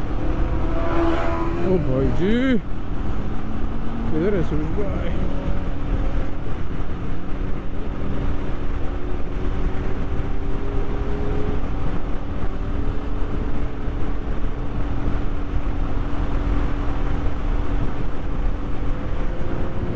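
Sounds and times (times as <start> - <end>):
motorcycle engine running: 0.0 - 19.9
wind rushing over microphone: 0.0 - 19.9.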